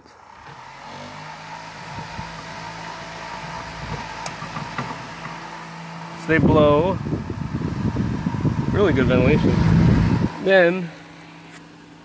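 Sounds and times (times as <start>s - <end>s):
electric fans whirring: 0.0s - 12.0s.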